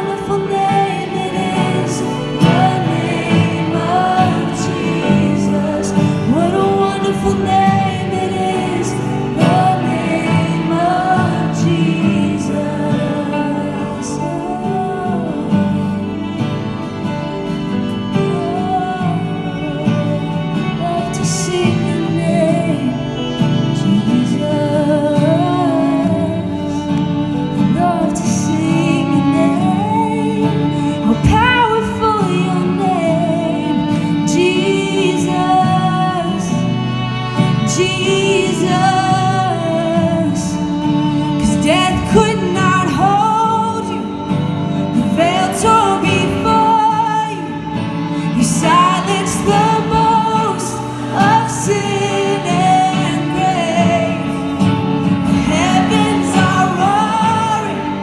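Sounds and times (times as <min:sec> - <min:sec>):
strummed acoustic guitar: 0:00.0 - 0:58.0
violin: 0:00.0 - 0:58.0
woman singing: 0:00.0 - 0:58.0
worship band playing slow song: 0:00.0 - 0:58.0.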